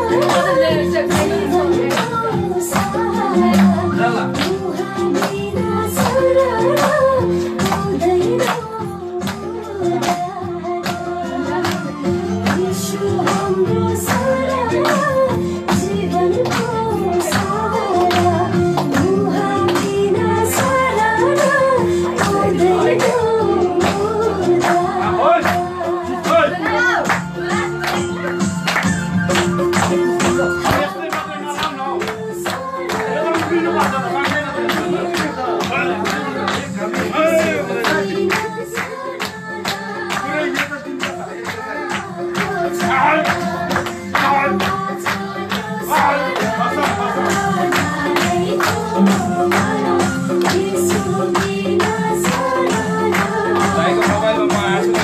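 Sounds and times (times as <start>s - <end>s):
person singing: 0.0s - 28.4s, 29.9s - 55.0s.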